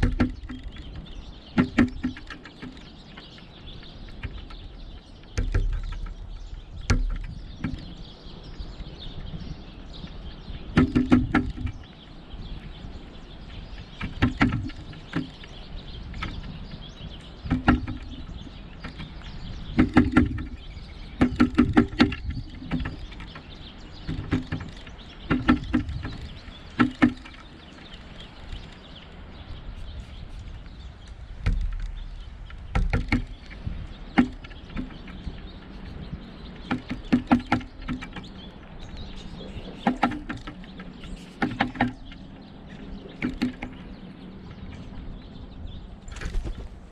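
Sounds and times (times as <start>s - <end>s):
woodpecker pecking: 0.0s - 46.9s.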